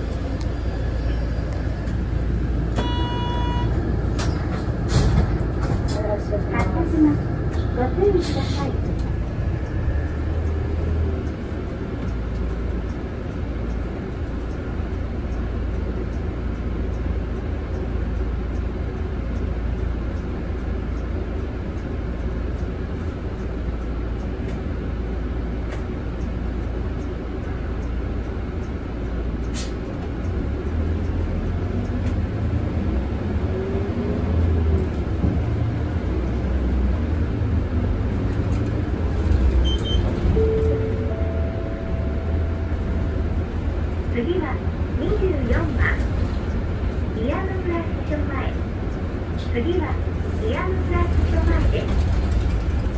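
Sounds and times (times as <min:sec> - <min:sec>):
bus engine drone: 0:00.0 - 0:52.9
road noise: 0:00.0 - 0:52.9.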